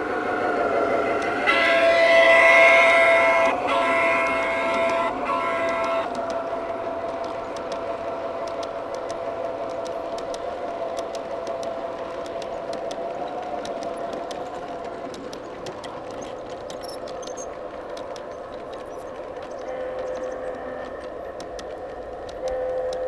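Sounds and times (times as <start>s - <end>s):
model train wheels clicking: 0.0s - 23.0s
train running hum: 0.0s - 23.0s.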